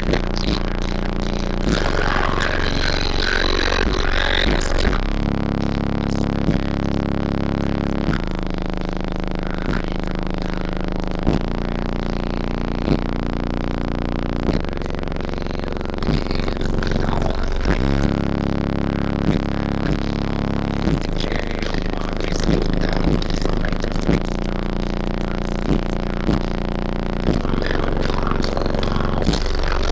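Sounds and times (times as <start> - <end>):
electronic music through car speakers: 0.0 - 29.9.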